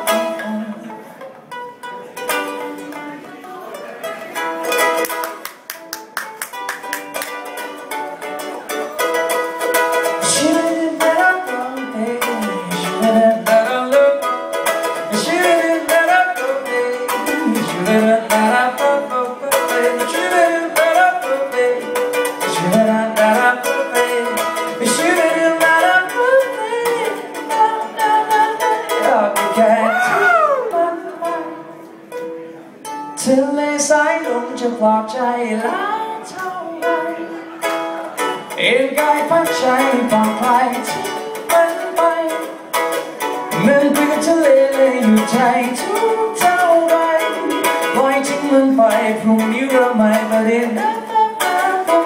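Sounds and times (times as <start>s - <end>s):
man singing: 0.0s - 1.2s, 10.0s - 31.8s, 33.1s - 52.0s
ukulele plucked notes: 0.0s - 52.0s.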